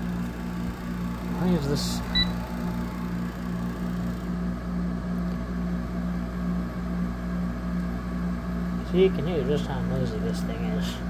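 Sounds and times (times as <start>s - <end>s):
air conditioner compressor humming: 0.0s - 11.0s
fan rushing: 0.0s - 11.0s.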